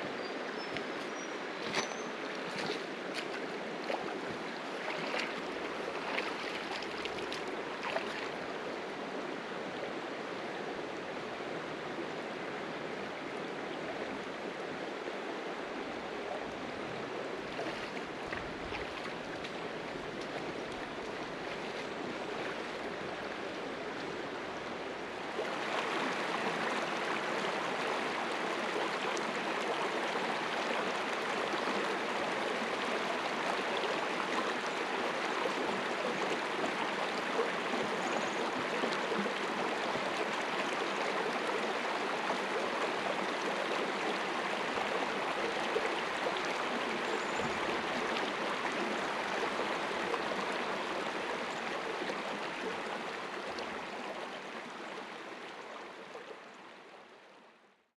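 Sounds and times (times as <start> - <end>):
creek babbling over rocks: 0.0 - 57.9.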